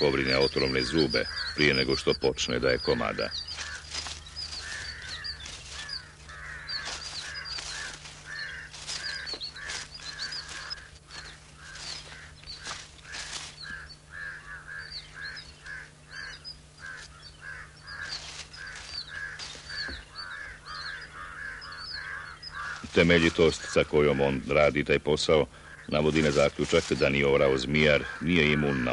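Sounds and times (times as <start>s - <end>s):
high bird chirps: 0.0s - 24.8s
low hum: 0.0s - 28.2s
harsh bird calls: 0.0s - 28.9s.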